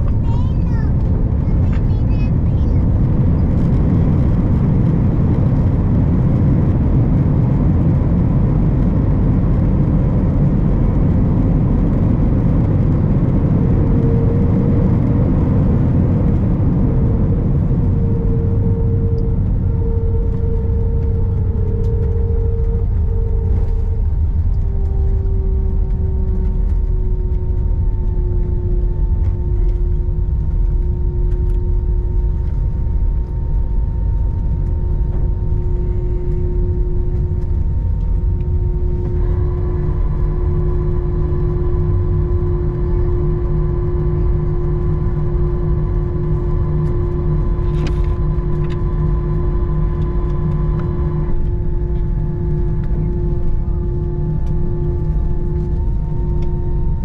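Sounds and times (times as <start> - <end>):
aircraft cabin rumble: 0.0 - 57.0
jet engine whine: 0.0 - 57.0.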